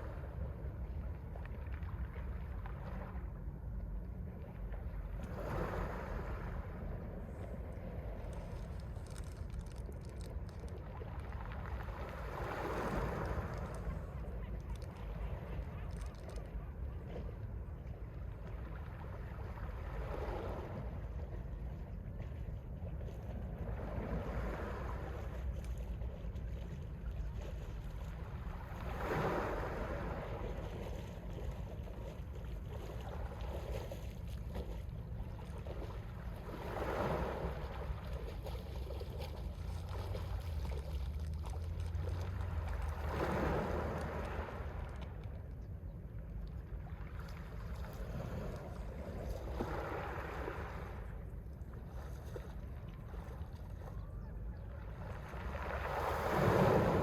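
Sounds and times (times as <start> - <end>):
sea waves breaking on shore: 0.0 - 45.6, 46.2 - 57.0
wind rumble on microphone: 0.0 - 57.0.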